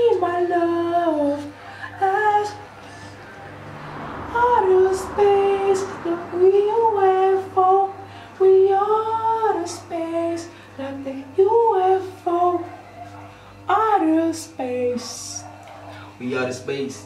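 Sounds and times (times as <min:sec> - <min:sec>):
high singing voice: 0:00.0 - 0:03.2, 0:04.2 - 0:15.7
faint backing music: 0:00.0 - 0:17.0.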